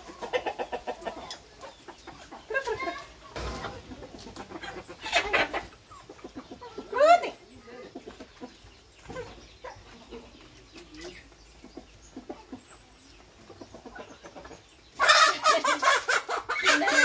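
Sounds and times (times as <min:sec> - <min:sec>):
chickens clucking softly: 0:00.0 - 0:17.0.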